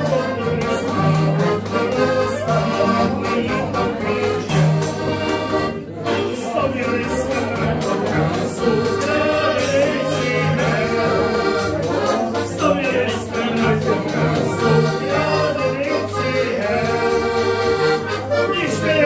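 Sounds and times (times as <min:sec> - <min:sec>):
man singing: 0:00.0 - 0:04.9, 0:06.1 - 0:19.0
button accordion: 0:00.0 - 0:19.0.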